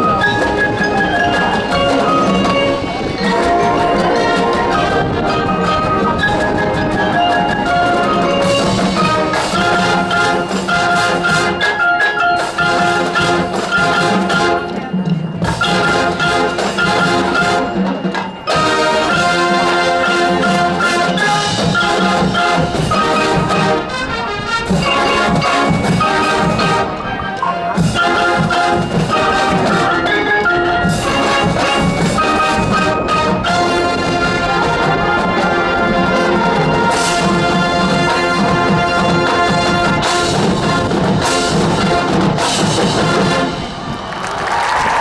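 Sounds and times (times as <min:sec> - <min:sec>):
marimba and xylophone notes: 0:00.0 - 0:44.1
marching band playing: 0:00.0 - 0:45.0.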